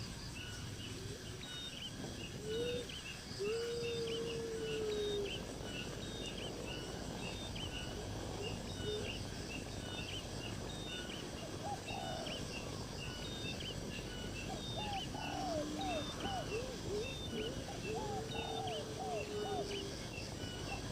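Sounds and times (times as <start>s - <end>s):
steady background hiss: 0.0s - 20.9s
birds chirping: 0.3s - 20.9s.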